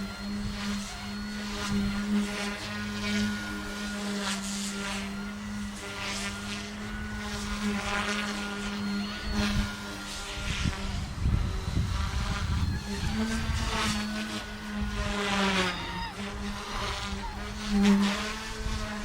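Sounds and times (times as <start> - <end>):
airy rotor swishes: 0.0 - 19.0
rc helicopter motor humming: 0.0 - 19.0.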